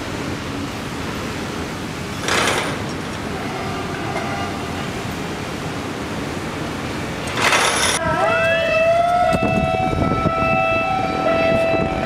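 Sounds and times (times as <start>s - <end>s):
street traffic: 0.0s - 12.0s
train running on track: 0.0s - 12.0s.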